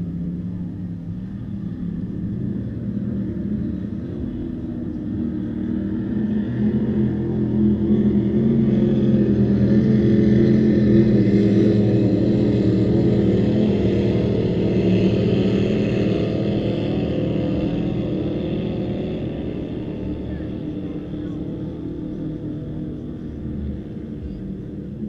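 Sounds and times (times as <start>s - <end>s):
powerboat engines running at speed: 0.0s - 25.0s.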